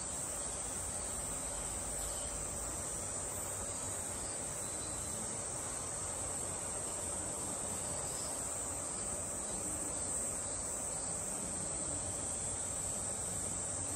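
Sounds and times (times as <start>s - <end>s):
insects droning: 0.0s - 13.9s
low hiss: 0.0s - 13.9s.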